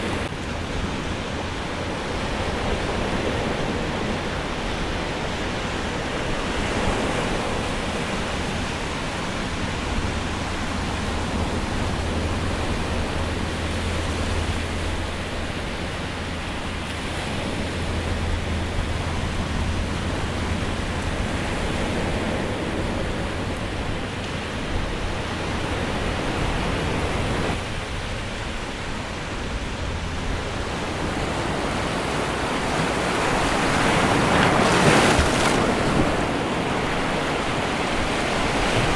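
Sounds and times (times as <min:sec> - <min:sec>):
waves breaking over rocks: 0:00.0 - 0:38.9.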